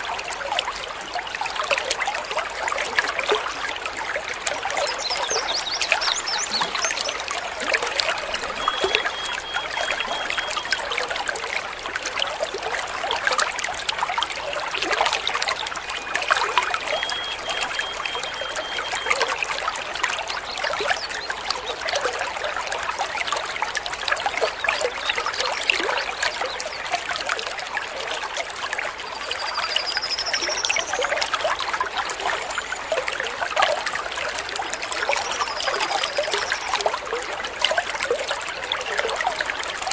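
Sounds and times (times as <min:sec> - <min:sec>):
babbling stream water: 0:00.0 - 0:39.9.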